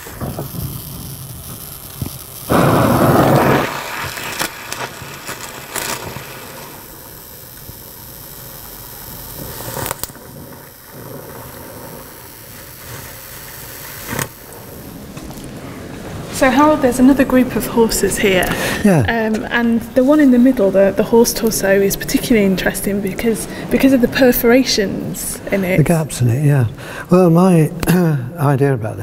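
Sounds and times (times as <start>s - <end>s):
loud burst of noise: 0.0s - 28.4s
torch flame hissing: 0.0s - 28.4s.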